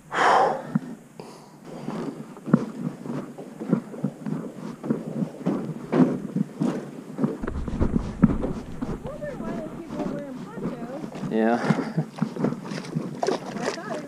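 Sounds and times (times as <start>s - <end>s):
footsteps on wooden boardwalk: 1.7s - 14.0s
wind rumbling on microphone: 1.8s - 13.4s.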